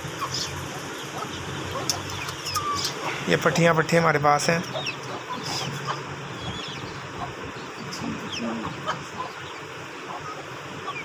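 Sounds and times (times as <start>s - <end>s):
chicks peeping: 0.0s - 11.0s
lower chick calls: 0.1s - 3.6s, 4.6s - 11.0s.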